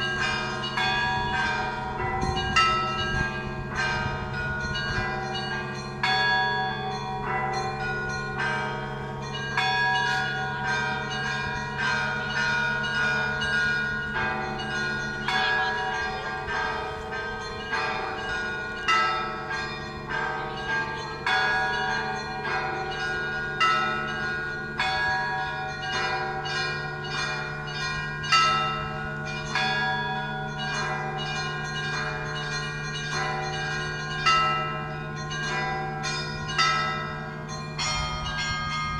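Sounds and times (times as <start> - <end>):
large bells humming: 0.0 - 38.9
small church bells ringing: 0.0 - 38.9.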